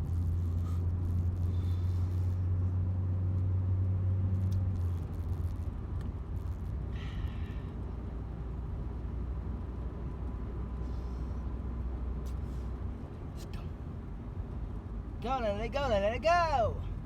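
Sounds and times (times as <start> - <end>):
car engine drone from inside: 0.0 - 17.0.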